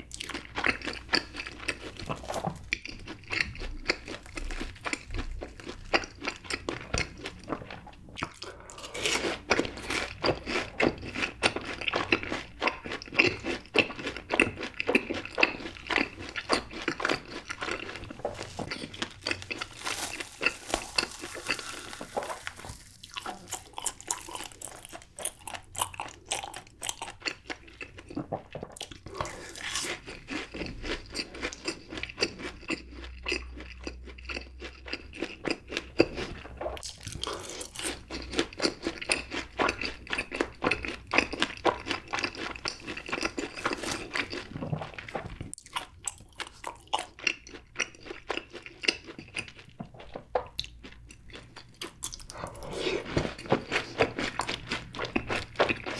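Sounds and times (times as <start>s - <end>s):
crunchy chewing: 0.1s - 55.9s.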